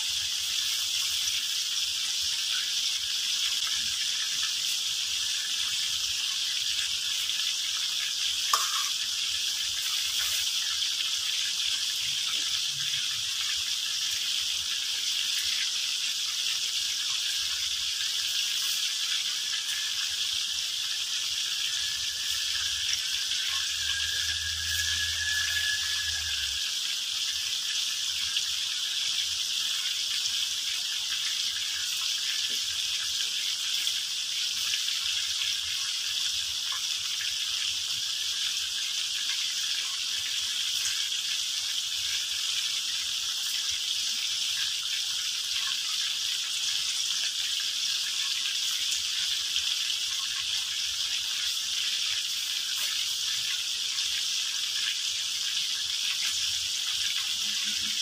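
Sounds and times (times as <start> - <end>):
chicken deep-frying in hot oil: 0.0 - 58.0.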